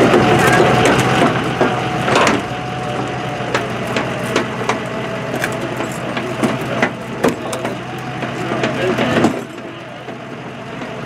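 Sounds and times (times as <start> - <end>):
winch hum and whine: 0.0 - 11.0.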